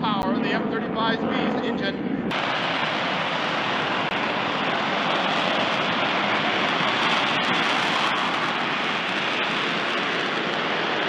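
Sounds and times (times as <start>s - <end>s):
jet engine roaring: 0.0s - 11.0s.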